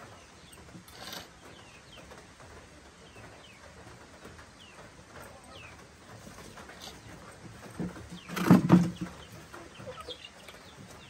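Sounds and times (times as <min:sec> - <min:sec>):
quiet village background: 0:00.0 - 0:11.0
small birds chirping: 0:00.0 - 0:11.0.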